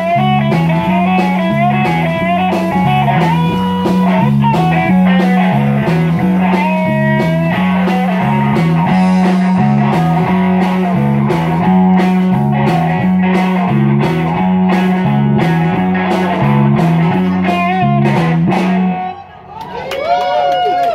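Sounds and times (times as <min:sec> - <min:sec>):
drum strokes: 0:00.0 - 0:19.0
low bass riff: 0:00.0 - 0:19.3
guitar: 0:00.0 - 0:20.9.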